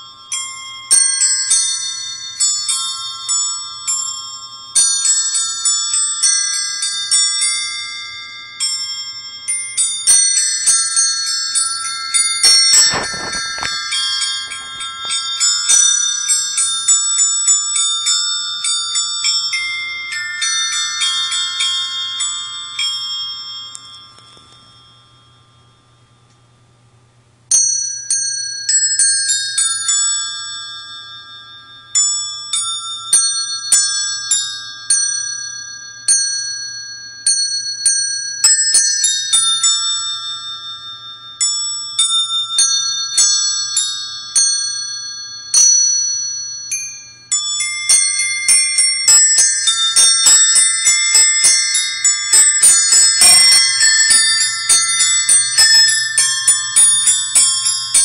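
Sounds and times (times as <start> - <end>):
small brass bells chiming a tune: 0.0 - 26.5, 27.5 - 58.0.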